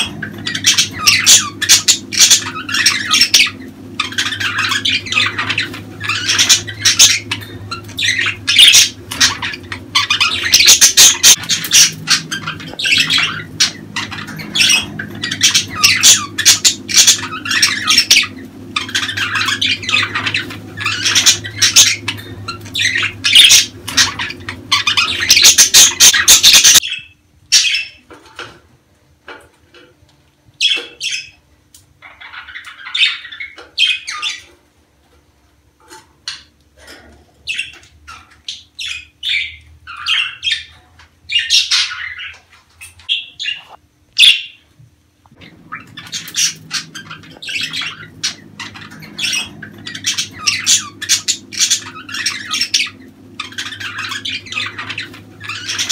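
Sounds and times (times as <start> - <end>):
budgerigars chattering and squawking: 0.0 - 28.6, 30.6 - 31.4, 32.0 - 34.6, 35.8 - 44.6, 45.3 - 55.9.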